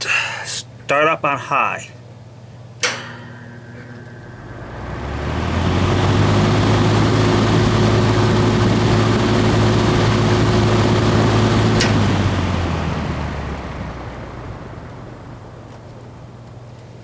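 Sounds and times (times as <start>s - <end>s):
box fan motor humming: 2.0s - 17.0s.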